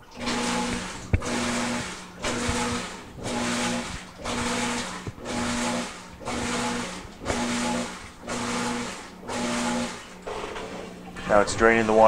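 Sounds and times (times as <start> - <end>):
washing machine agitating: 0.0 - 12.0.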